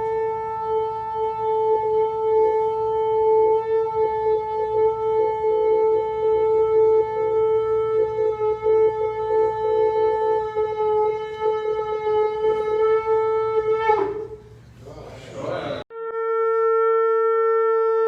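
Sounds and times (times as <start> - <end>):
shofar blast: 0.0 - 14.7, 15.9 - 18.0.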